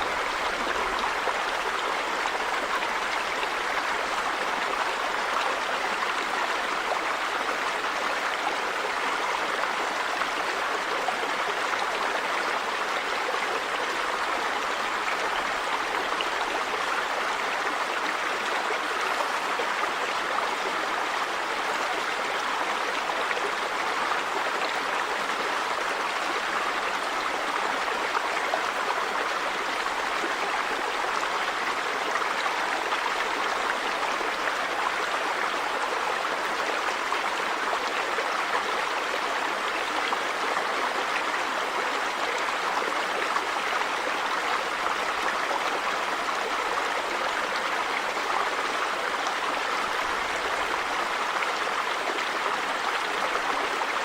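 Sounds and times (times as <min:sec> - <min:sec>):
river water running over stones: 0:00.0 - 0:54.0.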